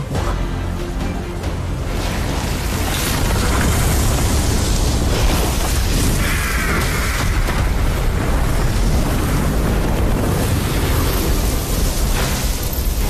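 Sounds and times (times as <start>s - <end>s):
deep rumbling explosion: 1.9s - 13.0s.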